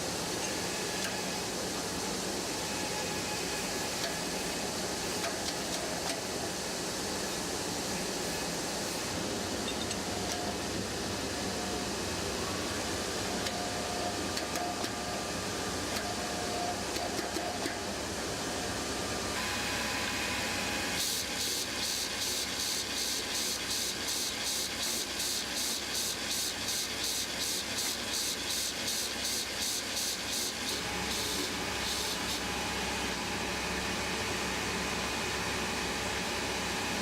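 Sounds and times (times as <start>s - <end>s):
factory machinery running: 0.0s - 37.0s.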